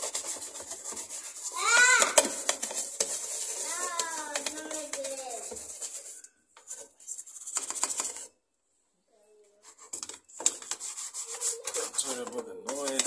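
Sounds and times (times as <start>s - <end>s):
toothbrush scrubbing plastic: 0.0s - 8.3s, 9.6s - 13.0s.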